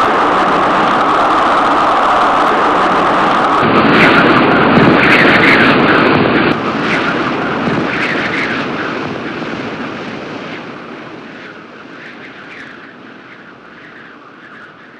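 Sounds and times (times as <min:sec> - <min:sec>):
strong wind rushing: 0:00.0 - 0:14.9.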